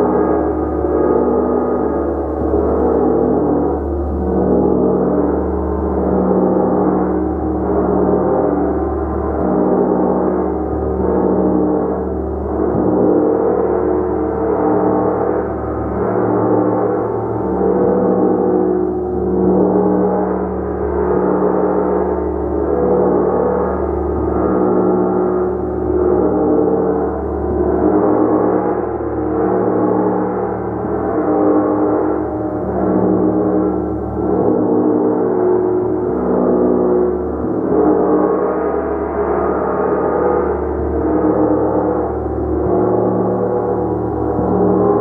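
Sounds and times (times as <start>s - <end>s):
large gong ringing: 0.0s - 45.0s.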